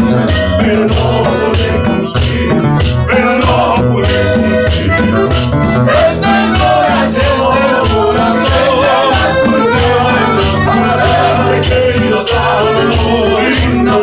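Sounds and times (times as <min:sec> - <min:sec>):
acoustic guitar strumming: 0:00.0 - 0:14.0
conga drum beat: 0:00.0 - 0:14.0
men singing: 0:00.0 - 0:14.0.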